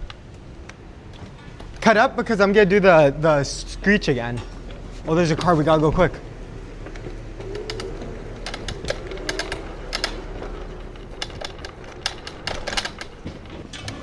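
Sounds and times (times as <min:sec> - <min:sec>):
electric scooter rattling: 0:00.0 - 0:14.0
low road noise: 0:00.0 - 0:14.0.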